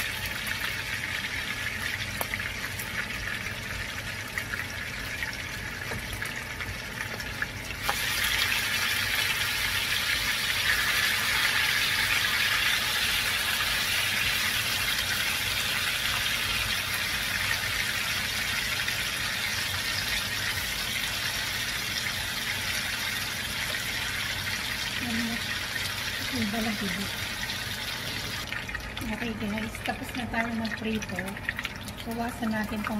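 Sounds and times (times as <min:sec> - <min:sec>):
meat sizzling in hot oil: 0:00.0 - 0:32.9.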